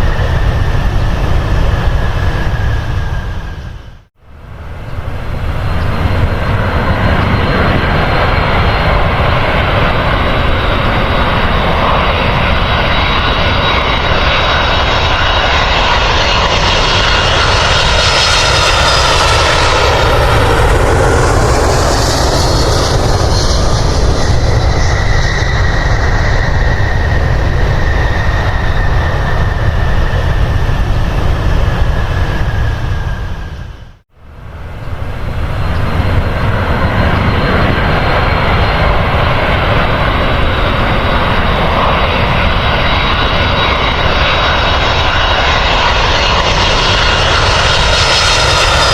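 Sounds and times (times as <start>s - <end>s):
airliner engines roaring past: 0.0s - 48.9s.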